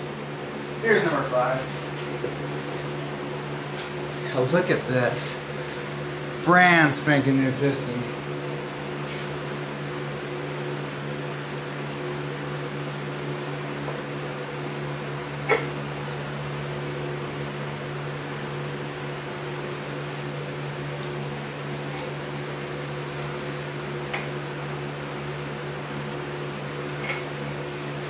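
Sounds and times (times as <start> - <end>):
electric fan humming: 0.0 - 28.0.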